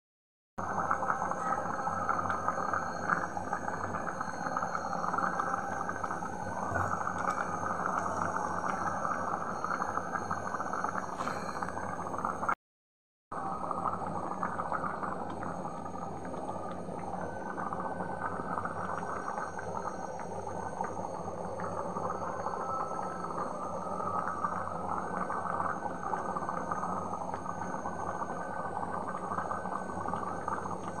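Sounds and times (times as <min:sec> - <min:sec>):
curry boiling and bubbling: 0:00.6 - 0:12.6, 0:13.3 - 0:31.0.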